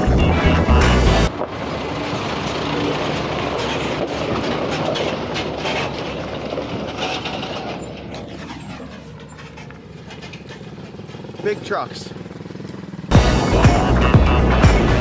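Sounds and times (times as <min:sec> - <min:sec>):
heavy truck passing: 0:00.0 - 0:15.0.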